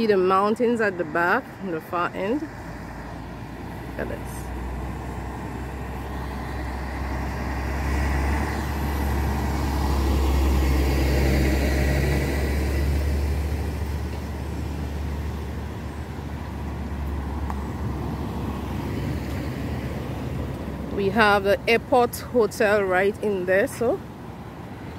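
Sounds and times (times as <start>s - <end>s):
vehicle passing: 0.0s - 24.9s.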